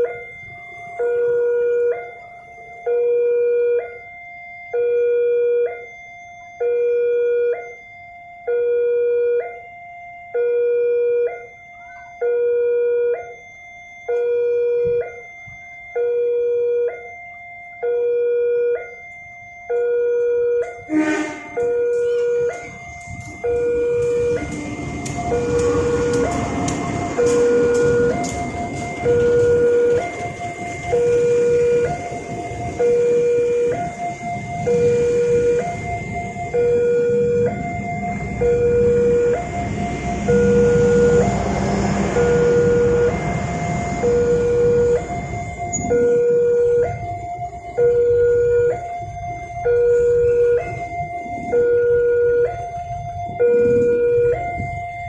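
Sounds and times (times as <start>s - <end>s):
approaching train: 0.0s - 13.2s, 18.7s - 55.0s
level crossing alarm tones: 0.0s - 55.0s.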